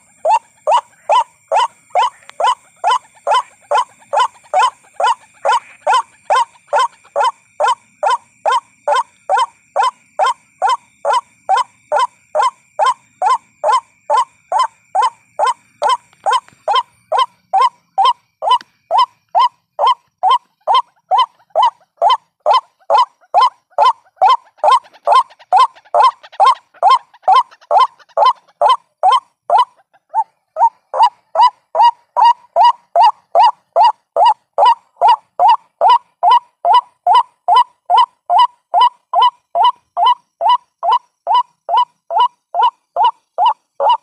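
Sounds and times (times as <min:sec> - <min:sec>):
waterhen calls: 0:00.0 - 0:44.0.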